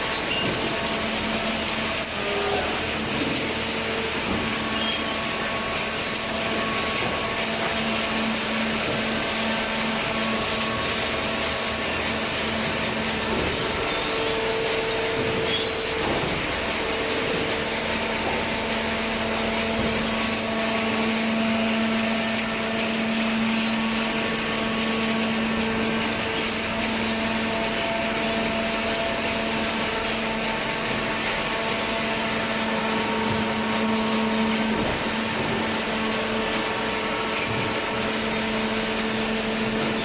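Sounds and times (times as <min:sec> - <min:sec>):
baler machine humming: 0:00.0 - 0:40.0.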